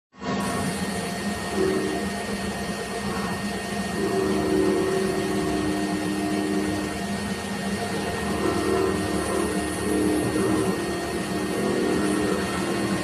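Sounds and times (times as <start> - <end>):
machine motor whine and hiss: 0.2 - 13.0.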